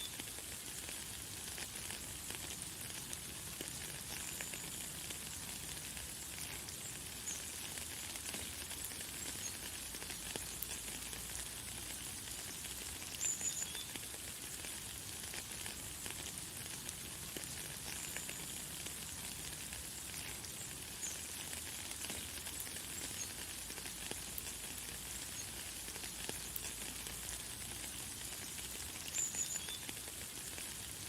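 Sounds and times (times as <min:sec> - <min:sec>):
light rain pattering: 0:00.0 - 0:31.0.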